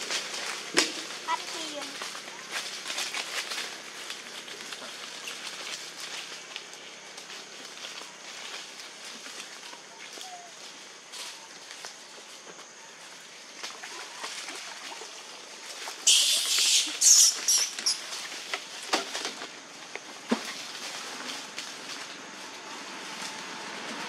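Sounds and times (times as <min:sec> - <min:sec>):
rustling in dry leaves: 0:00.0 - 0:24.0.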